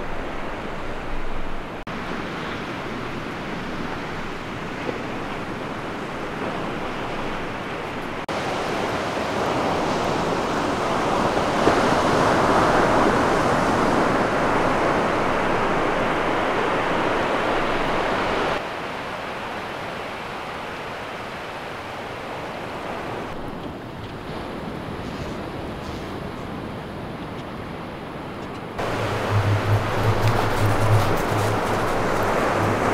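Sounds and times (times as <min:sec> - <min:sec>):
ocean surf breaking on beach: 0:00.0 - 0:27.1, 0:28.8 - 0:32.9.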